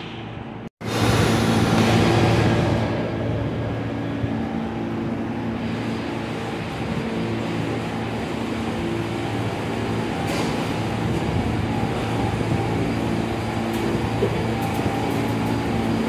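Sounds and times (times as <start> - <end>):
subway train rolling: 0.0 - 16.0.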